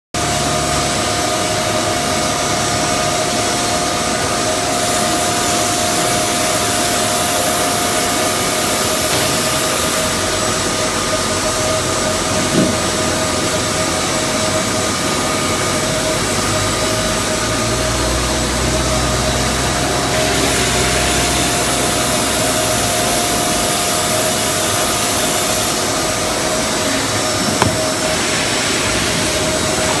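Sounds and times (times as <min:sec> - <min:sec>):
machine whine: 0:00.2 - 0:30.0.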